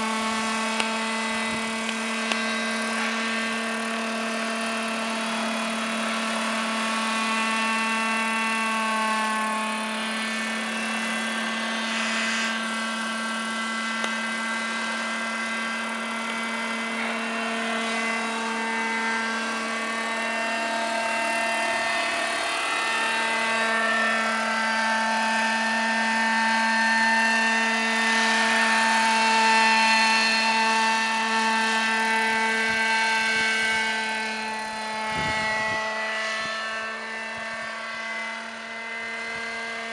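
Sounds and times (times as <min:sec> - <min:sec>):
model helicopter engine and rotors: 0:00.0 - 0:39.9.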